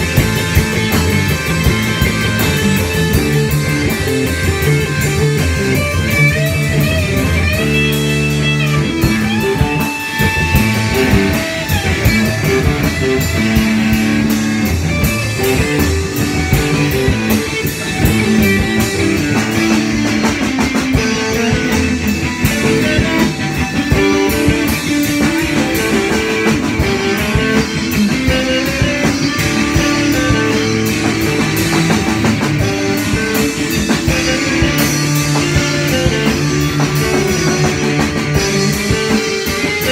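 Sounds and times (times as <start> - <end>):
drum kit with cymbal hits: 0.0 - 39.9
electric guitars playing: 0.0 - 39.9.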